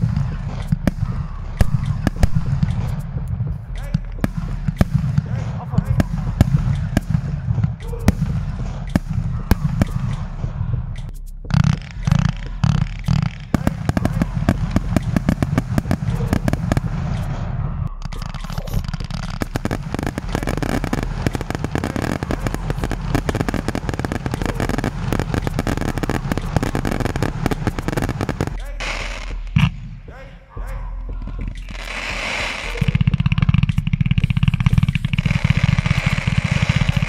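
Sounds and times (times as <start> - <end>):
fireworks cracking and popping: 0.0 - 30.0, 31.3 - 37.0.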